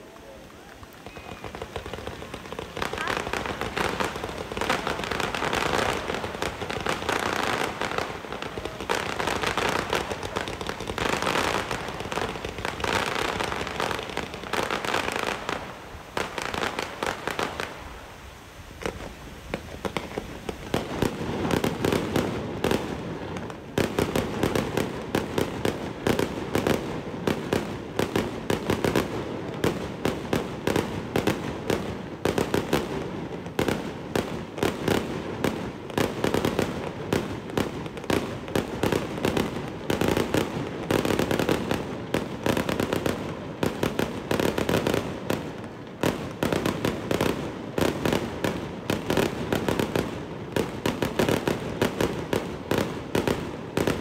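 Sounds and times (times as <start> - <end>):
fireworks banging: 0.0 - 17.8, 18.8 - 54.0.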